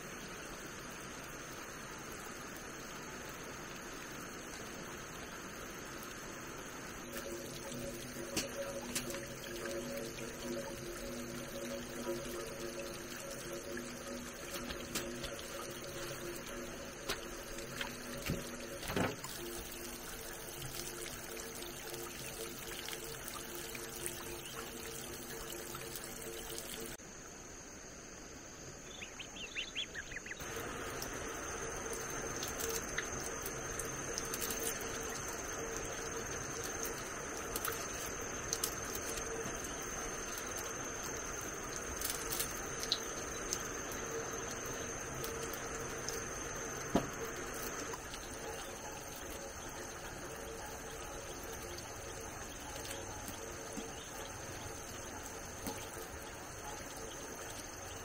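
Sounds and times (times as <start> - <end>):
thin high steady tone: 0.0 - 27.0, 29.0 - 58.0
tap water running into basket: 7.0 - 27.0, 30.4 - 58.0.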